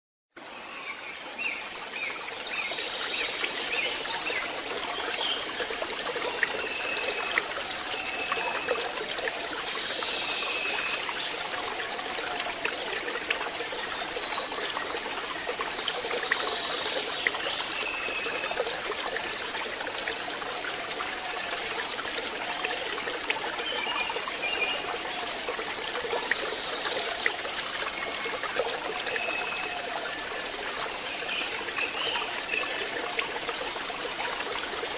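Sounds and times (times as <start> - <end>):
water trickling into pond: 0.4 - 34.9.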